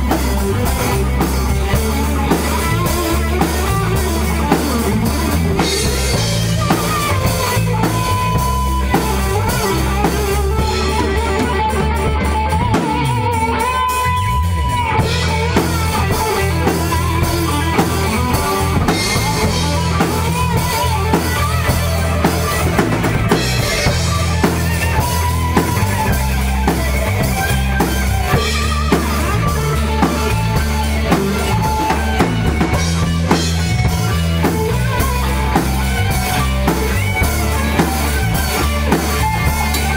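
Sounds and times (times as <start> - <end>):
drum kit beat: 0.0 - 39.9
electric guitar: 0.0 - 39.9
lead guitar bending pitch: 0.0 - 39.9.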